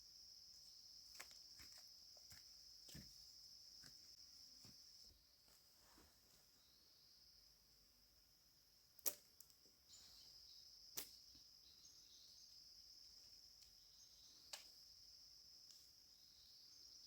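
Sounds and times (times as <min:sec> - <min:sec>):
insects chirring: 0:00.0 - 0:05.5, 0:06.4 - 0:17.0.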